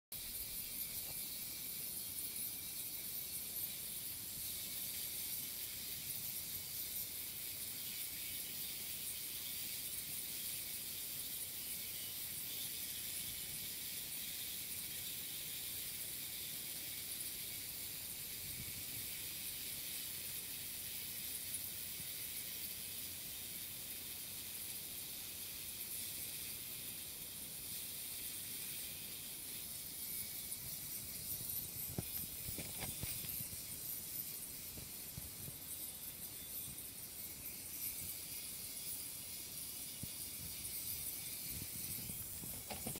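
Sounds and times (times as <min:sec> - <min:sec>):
ultrasonic cleaner hiss: 0:00.1 - 0:42.9.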